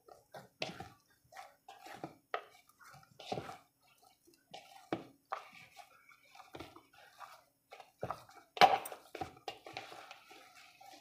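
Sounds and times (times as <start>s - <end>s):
hands kneading wet dough: 0.0s - 11.0s.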